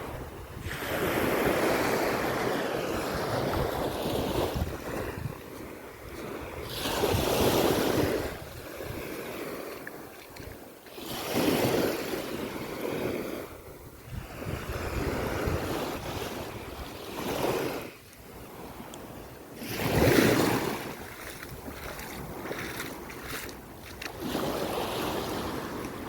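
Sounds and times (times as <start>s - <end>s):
wind buffeting microphone: 0.0s - 11.8s, 12.9s - 26.0s
waves breaking on a beach: 0.0s - 26.0s.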